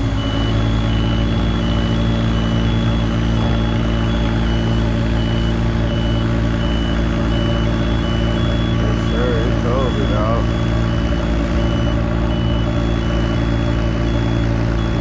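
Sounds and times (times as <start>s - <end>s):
diesel engine running: 0.0s - 15.0s
two-tone electronic warning beeps: 0.0s - 15.0s.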